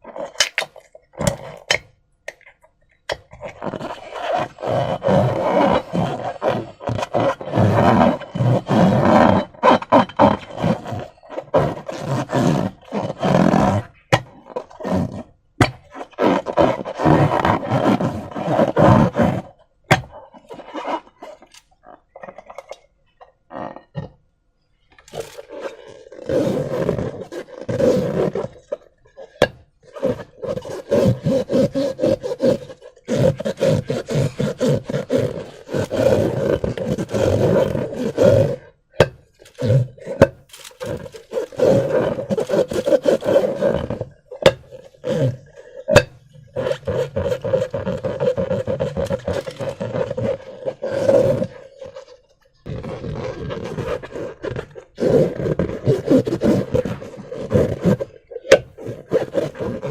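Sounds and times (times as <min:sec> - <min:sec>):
rubber balloon buzzing and squeaking: 0:00.0 - 0:01.9, 0:03.1 - 0:59.9.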